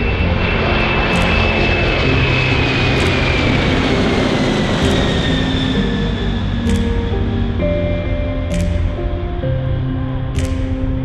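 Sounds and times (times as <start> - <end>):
high engine whine: 0.0 - 11.0
jet engines roaring: 0.0 - 11.0.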